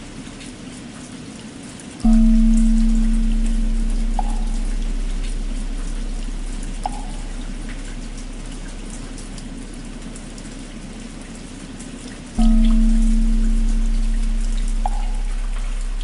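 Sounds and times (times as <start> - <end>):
steady rainfall: 0.0 - 16.0
large temple bell hum: 2.0 - 11.3, 12.4 - 16.0.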